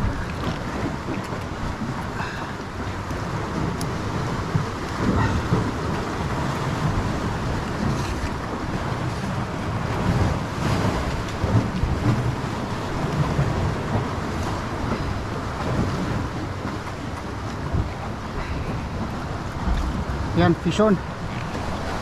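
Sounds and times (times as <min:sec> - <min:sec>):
water sloshing against boat hull: 0:00.0 - 0:22.0
wind buffeting microphone: 0:00.0 - 0:22.0.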